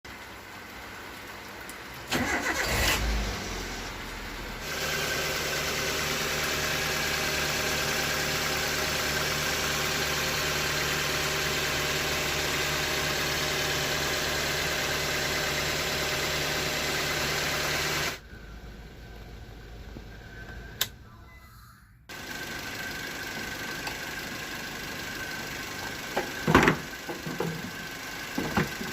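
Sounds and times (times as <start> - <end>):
car engine starting and idling: 0.1 - 21.5, 22.1 - 28.9.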